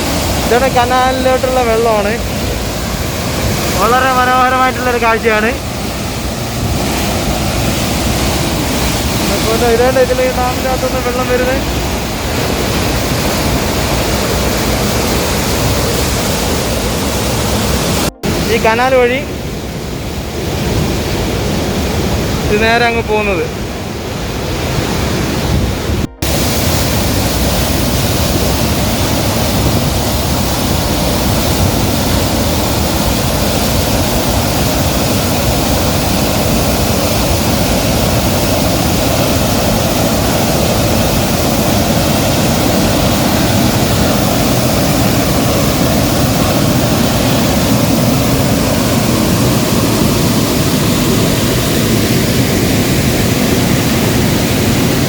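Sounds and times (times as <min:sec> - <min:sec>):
water rushing into canal: 0:00.0 - 0:55.0.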